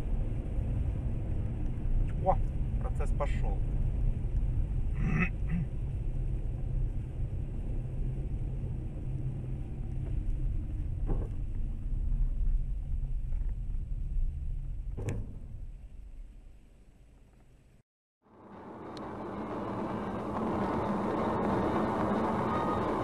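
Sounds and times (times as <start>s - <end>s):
car rumbling on road: 0.0s - 23.0s.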